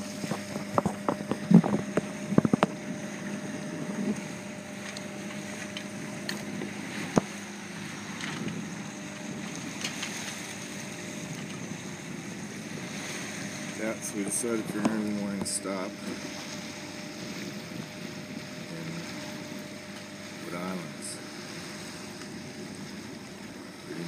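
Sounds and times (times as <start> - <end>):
boat engine humming: 0.0 - 24.0
wind and water noise: 0.0 - 24.0.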